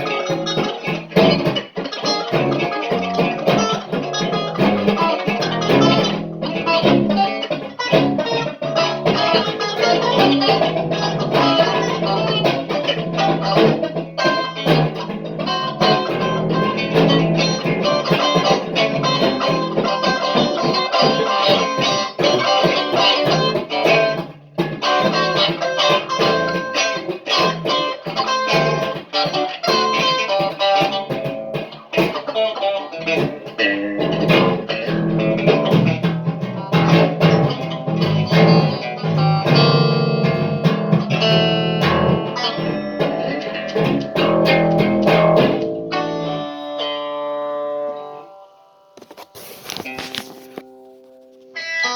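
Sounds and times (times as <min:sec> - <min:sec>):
guitar plucked notes: 0:00.0 - 0:49.0, 0:49.8 - 0:51.9.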